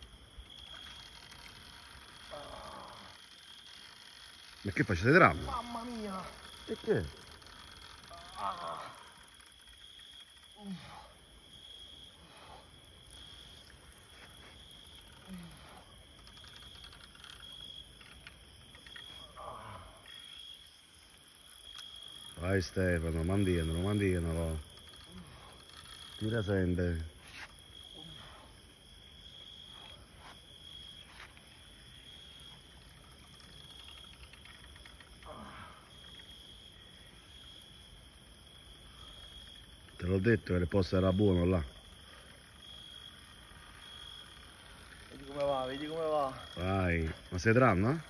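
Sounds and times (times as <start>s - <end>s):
crickets trilling: 0.0s - 48.0s.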